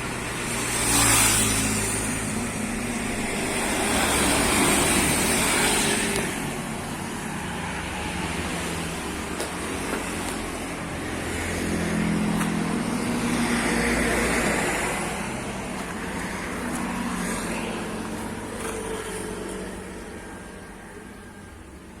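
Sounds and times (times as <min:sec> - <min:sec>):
bus diesel engine running: 0:01.6 - 0:22.0.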